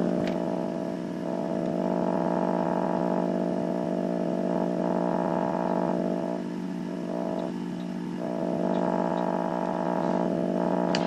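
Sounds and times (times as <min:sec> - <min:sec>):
radio electrical buzz: 0:00.0 - 0:11.0.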